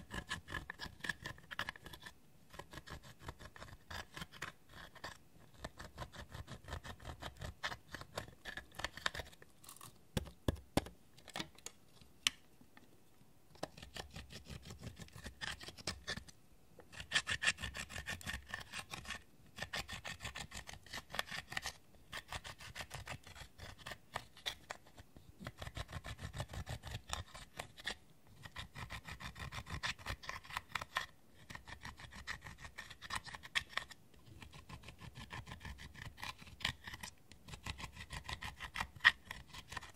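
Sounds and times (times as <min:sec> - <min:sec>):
metal tool scraping eyeshadow: 0:00.0 - 0:09.4, 0:13.7 - 0:39.9.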